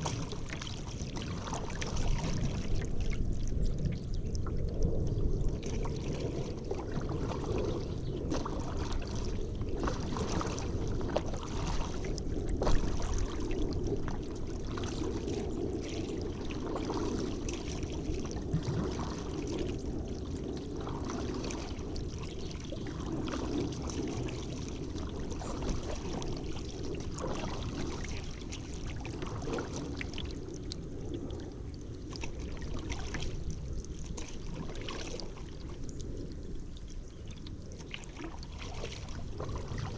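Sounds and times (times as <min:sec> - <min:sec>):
paddle splashing in water: 0:00.0 - 0:30.8, 0:31.4 - 0:39.9
water rushing along boat: 0:00.0 - 0:39.9.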